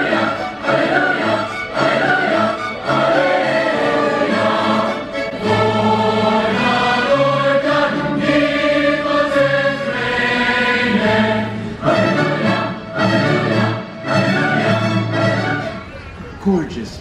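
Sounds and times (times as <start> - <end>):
choir singing a carol: 0.0 - 15.8
orchestral accompaniment: 0.0 - 15.9.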